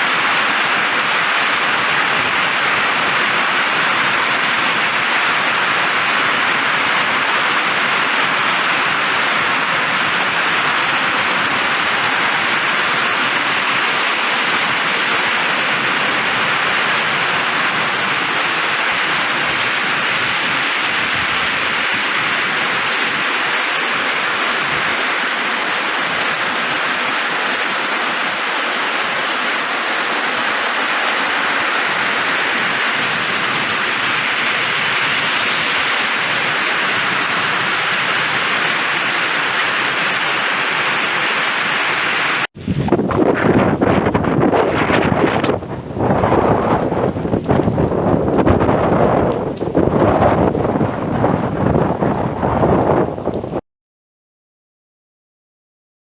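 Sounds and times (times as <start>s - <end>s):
heavy rain falling: 0.0s - 53.6s.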